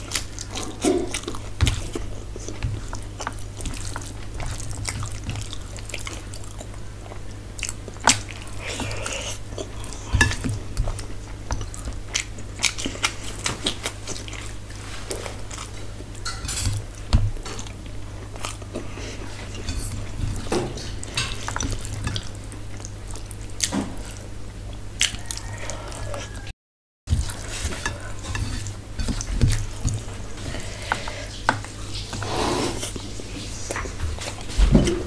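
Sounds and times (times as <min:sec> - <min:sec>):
chewing: 0:00.0 - 0:26.5, 0:27.1 - 0:35.0.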